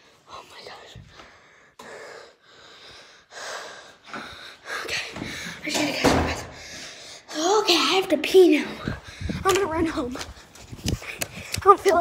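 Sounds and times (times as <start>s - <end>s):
girl breathing heavily: 1.0s - 7.4s, 8.6s - 11.7s.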